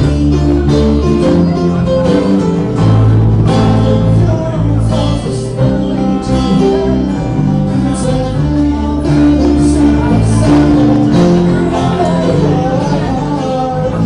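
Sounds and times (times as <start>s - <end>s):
band song with guitar: 0.0s - 14.0s.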